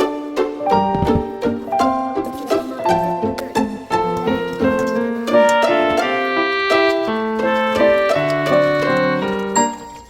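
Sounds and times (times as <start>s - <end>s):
piano melody: 0.0s - 10.0s.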